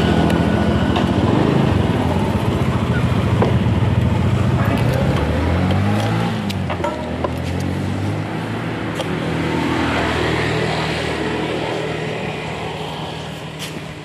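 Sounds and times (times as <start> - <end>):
scooter engine running: 0.0 - 14.0.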